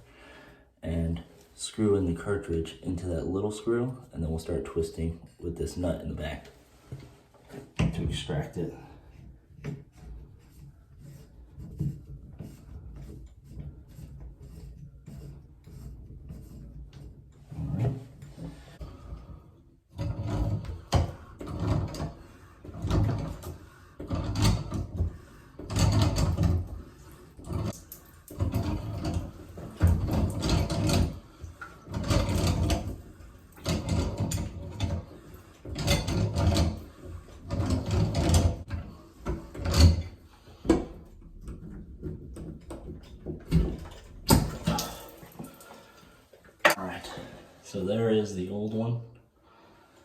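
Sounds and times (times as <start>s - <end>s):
metal scraping and clunking: 4.1s - 47.9s.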